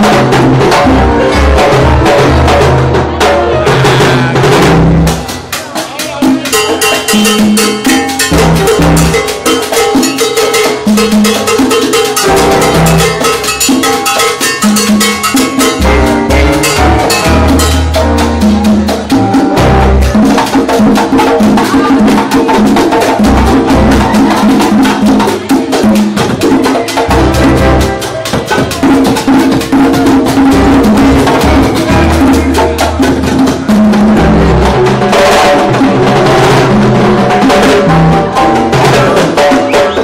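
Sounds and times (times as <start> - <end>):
bass: 0.0 - 40.0
congas drumming: 0.0 - 40.0.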